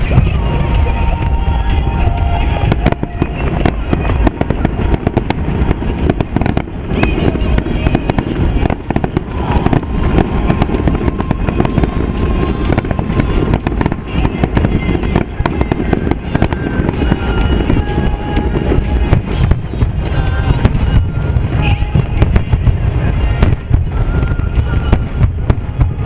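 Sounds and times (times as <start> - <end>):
background music: 0.0 - 26.0
fireworks bursting and crackling: 0.0 - 26.0
low rumble: 0.0 - 26.0.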